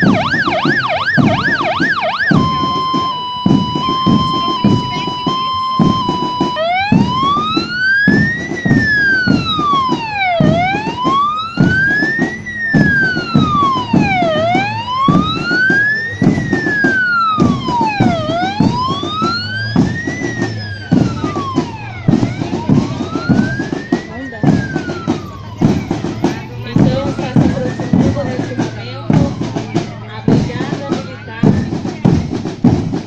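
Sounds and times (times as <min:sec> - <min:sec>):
electronic wail siren: 0:00.0 - 0:31.9
low drumbeats: 0:00.0 - 0:33.0.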